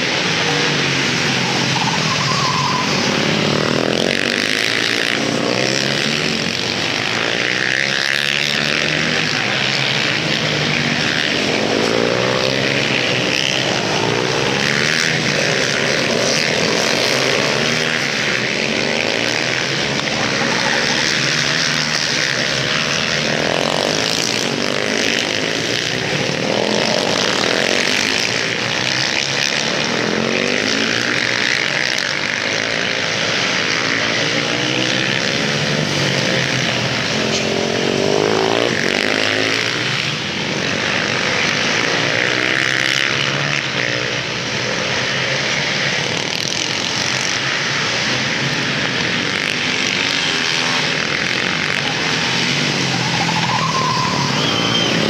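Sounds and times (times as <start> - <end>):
racing motorcycles revving: 0.0 - 55.0.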